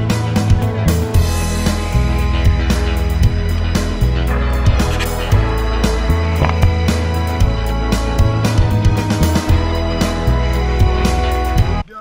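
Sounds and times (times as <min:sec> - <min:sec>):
bass-heavy music with steady beat: 0:00.1 - 0:11.8.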